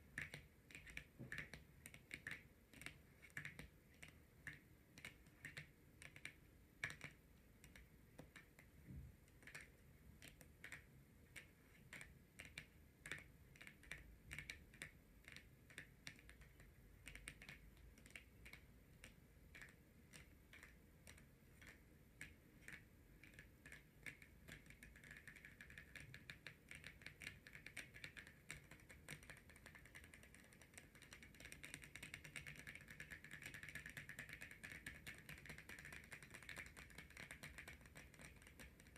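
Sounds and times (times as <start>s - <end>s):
fingernails tapping on cards: 0.1s - 8.7s, 9.3s - 38.9s.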